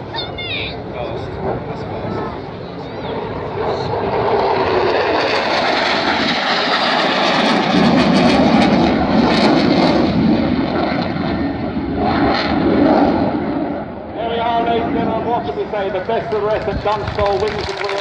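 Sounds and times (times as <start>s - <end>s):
jet aircraft roar: 0.0s - 18.0s.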